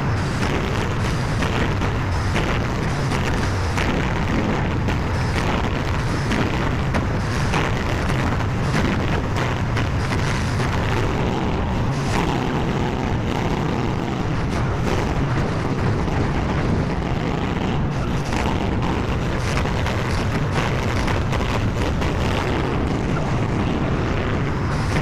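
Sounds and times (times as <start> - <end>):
loader engine droning: 0.0 - 25.0.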